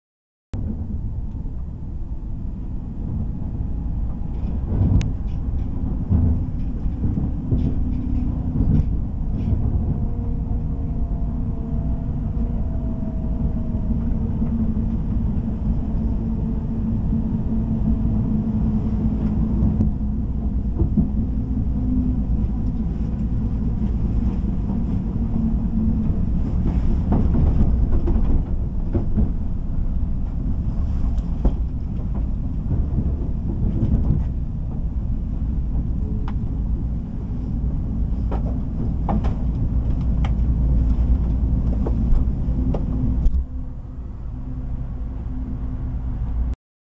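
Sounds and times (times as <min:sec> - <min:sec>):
train rumble inside carriage: 0:00.6 - 0:46.6.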